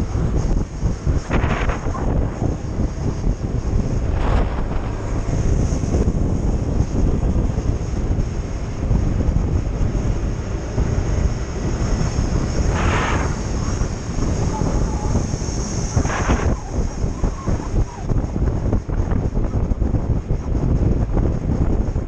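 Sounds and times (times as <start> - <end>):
scooter engine droning: 0.0 - 18.7
wind rumble on microphone: 0.0 - 22.0.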